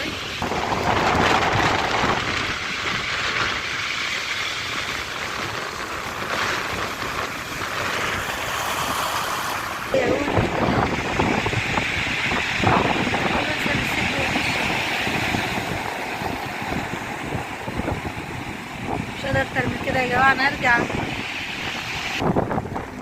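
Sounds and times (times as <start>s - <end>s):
light rain: 0.0s - 23.0s
sea surf: 0.0s - 23.0s
wind on microphone: 0.0s - 23.0s.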